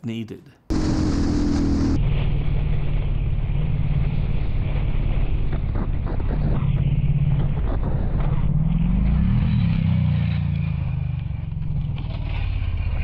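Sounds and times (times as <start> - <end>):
motorcycle engine running: 0.7 - 13.0.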